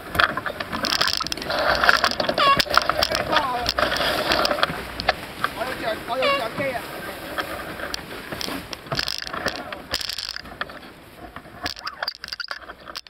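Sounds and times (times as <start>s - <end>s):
winch clicking and ratcheting: 0.0s - 5.6s, 7.3s - 13.0s.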